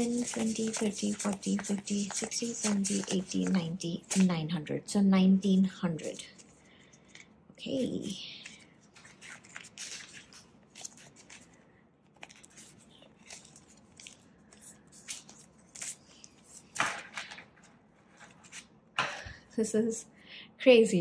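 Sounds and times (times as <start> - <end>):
banknotes crackling and rustling: 0.0 - 4.6, 5.5 - 18.8.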